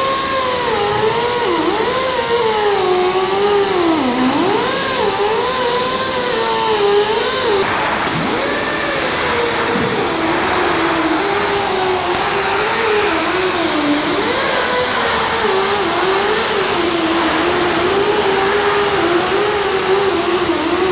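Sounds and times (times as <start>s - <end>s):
loud hiss: 0.0s - 20.9s
power tool motor running: 0.0s - 20.9s.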